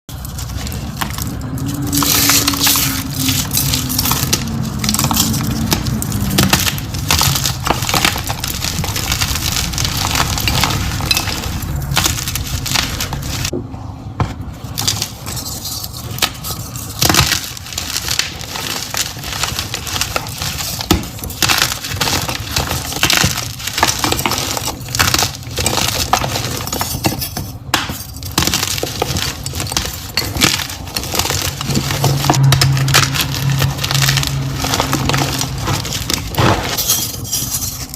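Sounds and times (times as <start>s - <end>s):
chalk being crushed: 0.1s - 13.5s, 14.7s - 37.9s.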